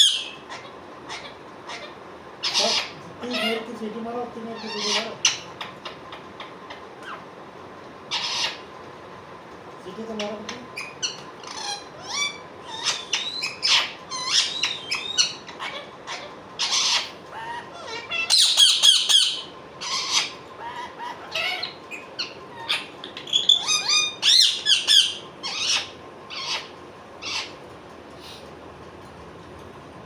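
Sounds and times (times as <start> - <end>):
parrot squawking and chirping: 0.0 - 7.4, 8.0 - 8.8, 10.2 - 27.7.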